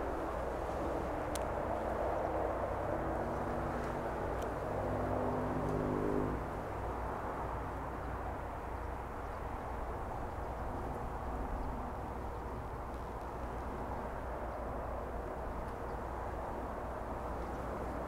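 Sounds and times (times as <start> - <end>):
low rumble with hiss: 0.0 - 18.0.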